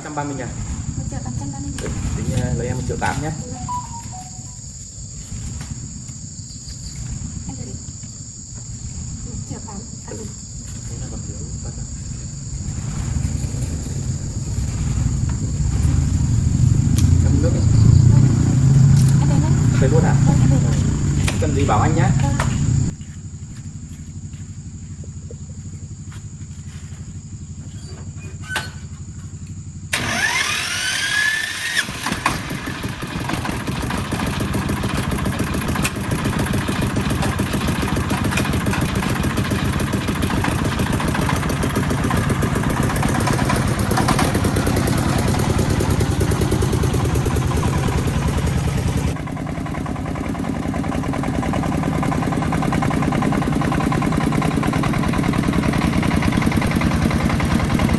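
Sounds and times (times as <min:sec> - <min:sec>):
engine starting with rising whine: 0:00.0 - 0:57.9.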